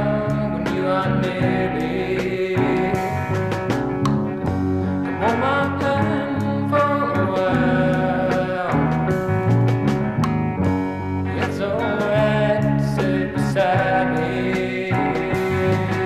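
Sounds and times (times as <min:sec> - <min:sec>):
country song singing over guitar: 0:00.0 - 0:03.9, 0:05.0 - 0:09.7, 0:11.2 - 0:16.0.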